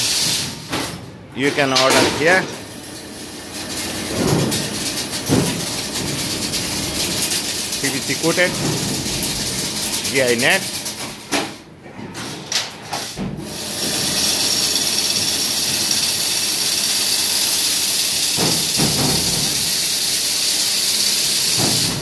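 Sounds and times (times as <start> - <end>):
fence weaving machine whirring: 1.4 - 11.4, 13.4 - 22.0.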